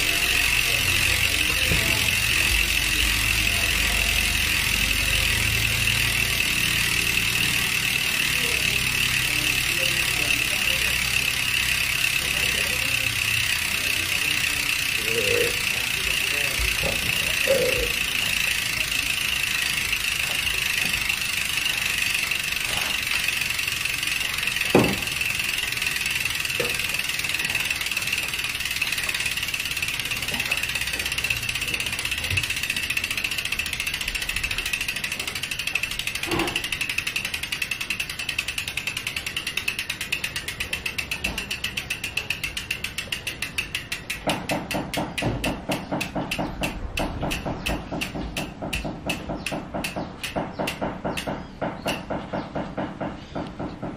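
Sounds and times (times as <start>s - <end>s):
bicycle freehub ticking: 0.0s - 53.9s.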